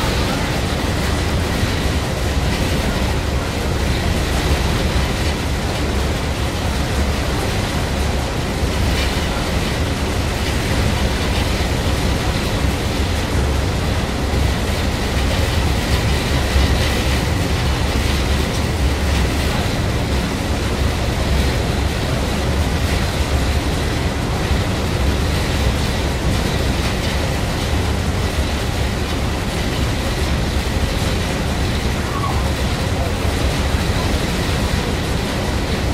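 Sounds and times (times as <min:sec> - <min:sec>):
boat engine drone: 0:00.0 - 0:35.9.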